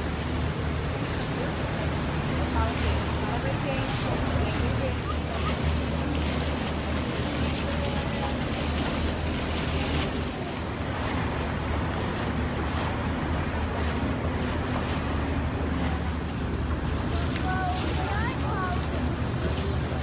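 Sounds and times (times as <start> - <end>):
boat engine rumble: 0.0 - 20.0
water rushing past hull: 0.0 - 20.0.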